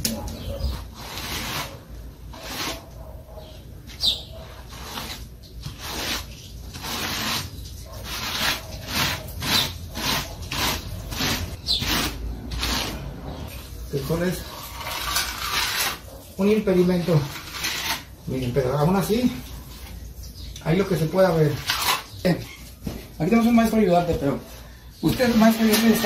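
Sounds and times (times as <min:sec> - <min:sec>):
straightedge scraping wet mortar: 0:00.0 - 0:03.0, 0:03.9 - 0:19.9, 0:20.8 - 0:22.7, 0:25.0 - 0:26.0.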